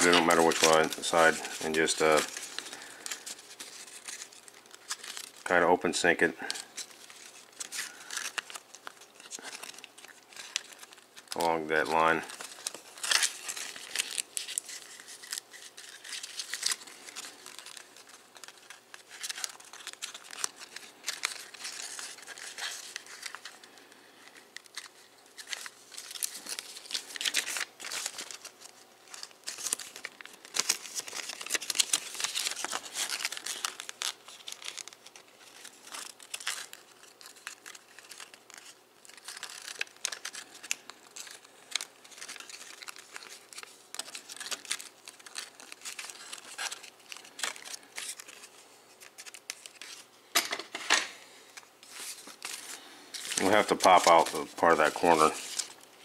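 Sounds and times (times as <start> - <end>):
paper crinkling as it is folded: 0.0 - 50.2, 51.3 - 56.0.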